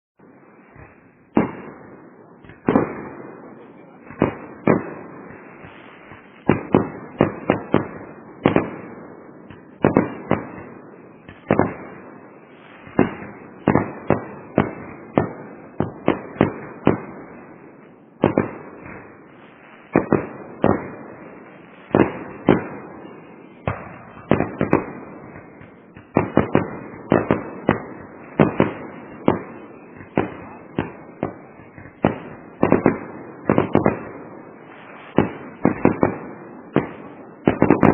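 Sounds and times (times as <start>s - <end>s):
fireworks bangs: 0.2s - 37.9s
fireworks crackle: 0.3s - 37.9s.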